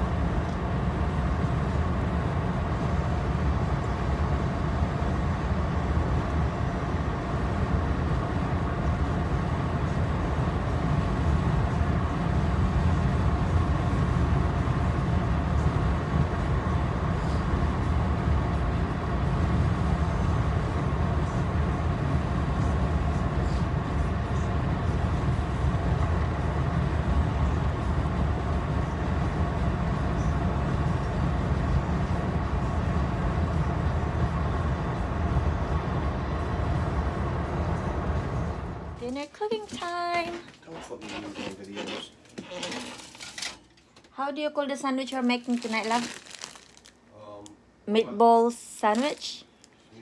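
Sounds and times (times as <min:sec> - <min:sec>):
faint steady hum: 0:00.0 - 0:40.7.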